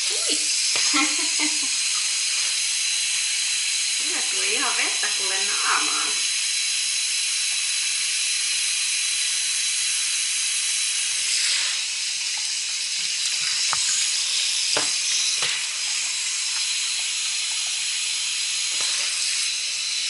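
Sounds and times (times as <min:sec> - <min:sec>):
shower spraying onto tiled floor: 0:00.0 - 0:20.0.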